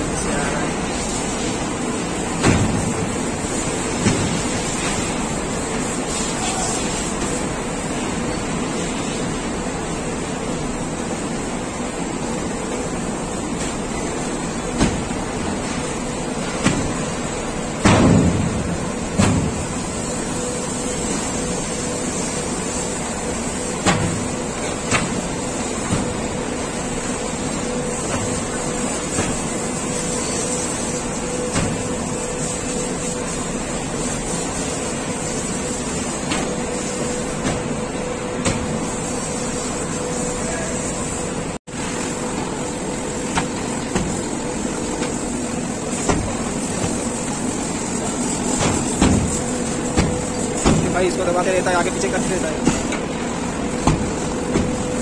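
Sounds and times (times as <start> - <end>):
conveyor mechanical hum: 0.0 - 55.0.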